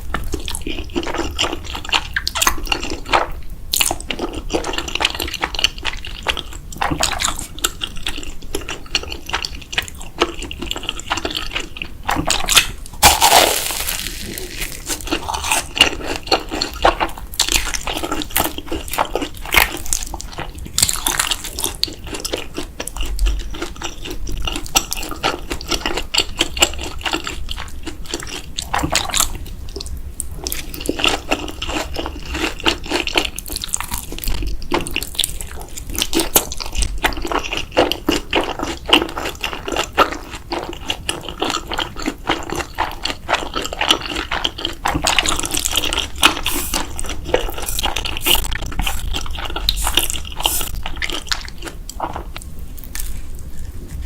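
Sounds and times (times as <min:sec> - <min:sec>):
chewing and slurping noodles: 0:00.0 - 0:54.0.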